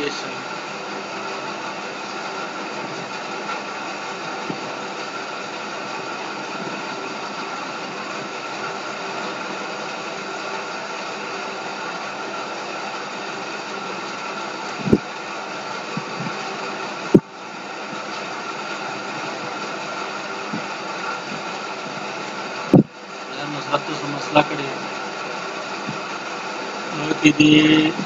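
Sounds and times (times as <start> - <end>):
faint constant hum: 0.0 - 28.0.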